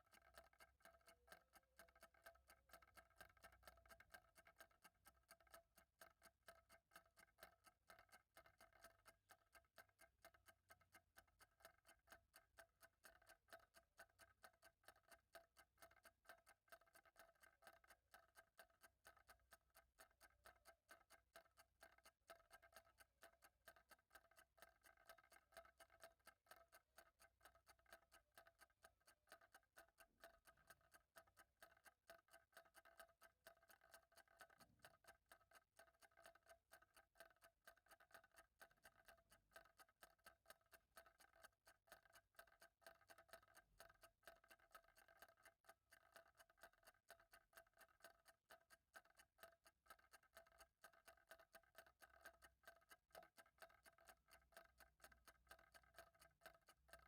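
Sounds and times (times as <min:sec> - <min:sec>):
faint clock ticking: 0:00.0 - 0:57.0.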